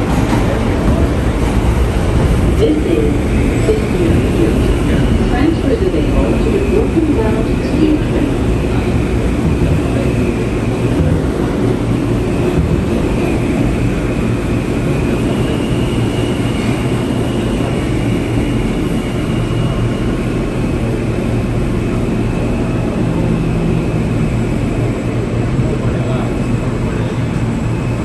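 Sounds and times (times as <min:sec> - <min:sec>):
subway train rumble: 0:00.0 - 0:28.0.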